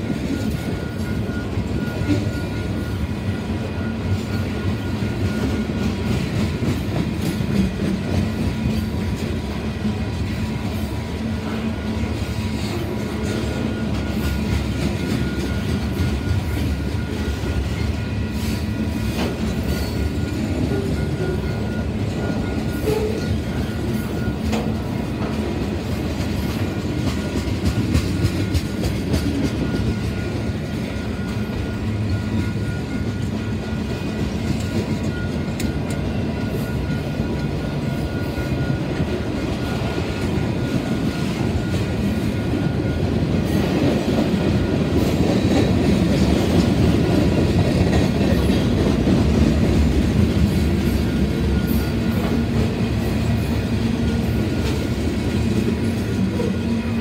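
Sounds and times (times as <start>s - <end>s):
freight train rolling past: 0.0s - 57.0s
wheels clacking over rail joints: 3.8s - 57.0s.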